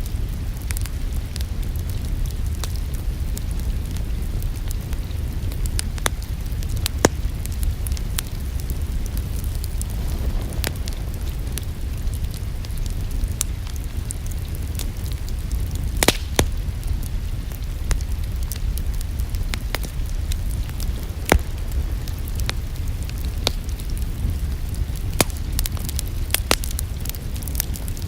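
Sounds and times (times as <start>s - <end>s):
fire pops and snaps: 0.0s - 28.0s
low rumble of flames: 0.0s - 28.0s
wood fire crackling: 0.0s - 28.0s.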